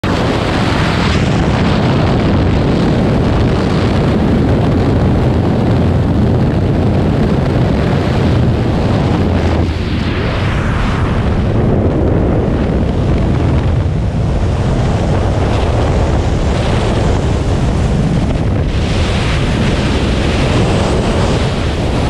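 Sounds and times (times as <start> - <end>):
plane engines and propeller wash: 0.0 - 22.0
rush of freefall wind: 0.0 - 22.0
wind buffeting microphone: 0.0 - 22.0.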